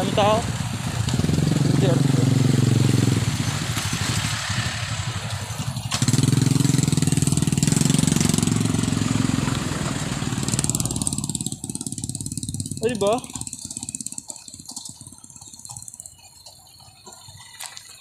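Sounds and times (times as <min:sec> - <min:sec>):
vehicle engine droning: 0:00.0 - 0:18.0
wind and road noise: 0:00.0 - 0:18.0.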